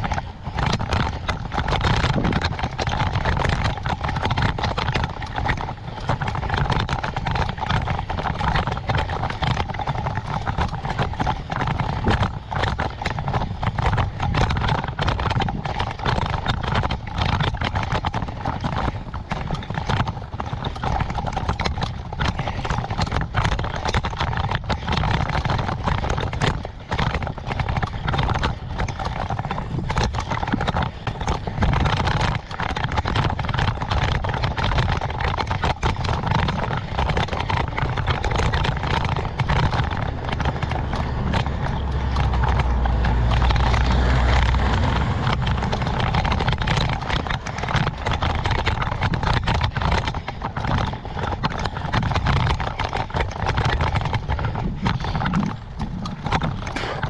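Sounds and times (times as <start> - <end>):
camera rattling and knocking: 0.0 - 57.0
wind rumbling on microphone: 0.0 - 57.0.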